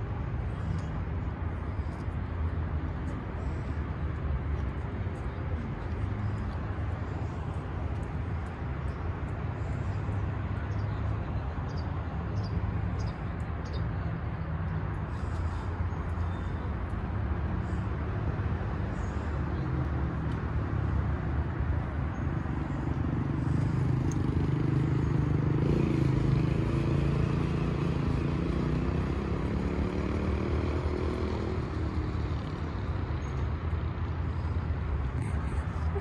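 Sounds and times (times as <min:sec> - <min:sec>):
passing vehicle engine hum: 0:00.0 - 0:36.0
traffic rumble: 0:00.0 - 0:36.0.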